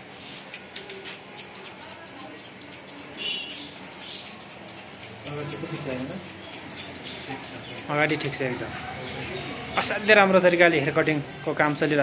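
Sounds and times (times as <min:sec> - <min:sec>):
scissors snipping hair: 0:00.5 - 0:08.4, 0:10.3 - 0:12.0.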